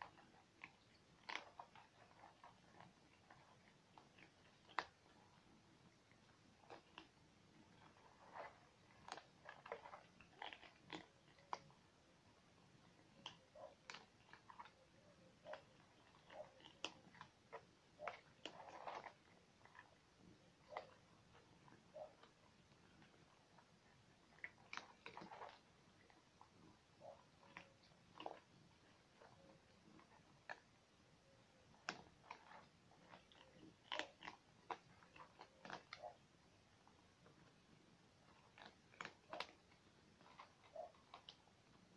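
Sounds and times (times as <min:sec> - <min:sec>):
cats chewing dry food: 0:00.0 - 0:41.9.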